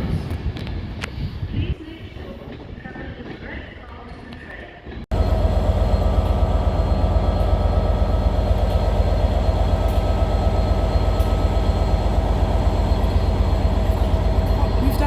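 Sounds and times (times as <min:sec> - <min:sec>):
train rumbling close by: 0:00.0 - 0:15.0.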